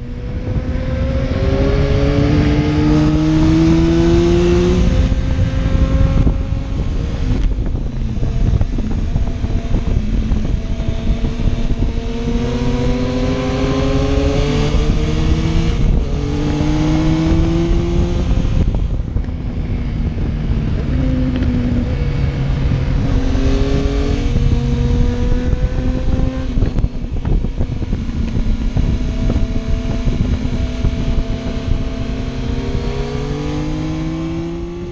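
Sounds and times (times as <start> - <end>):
motorcycle engine accelerating: 0.0 - 34.9
wind rumble on microphone: 0.0 - 34.9.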